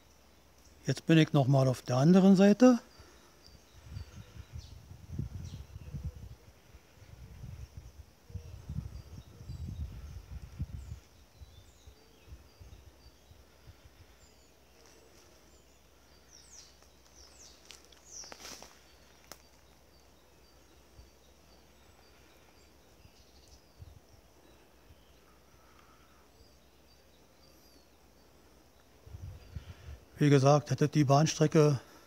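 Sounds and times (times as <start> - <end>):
sweeping bird calls: 0.0 - 32.0.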